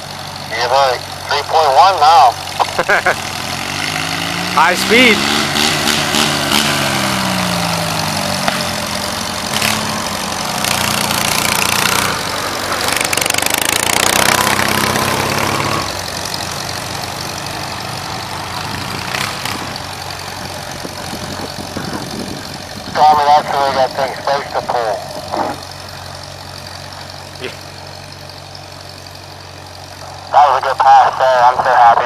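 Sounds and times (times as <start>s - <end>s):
tractor engine under load: 0.0s - 32.0s.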